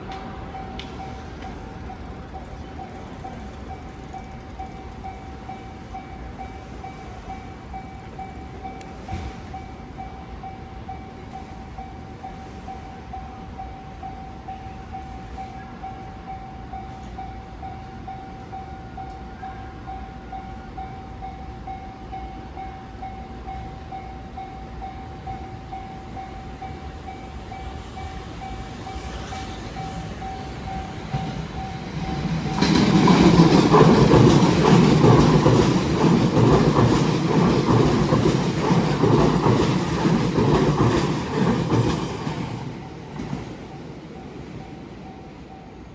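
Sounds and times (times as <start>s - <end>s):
train passing at speed: 0.0s - 45.9s.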